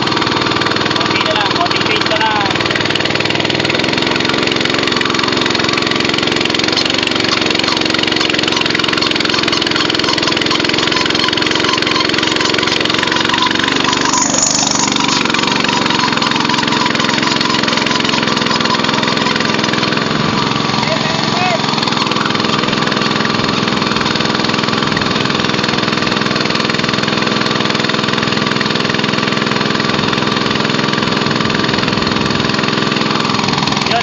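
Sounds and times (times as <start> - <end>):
small gasoline engine running: 0.0 - 34.0.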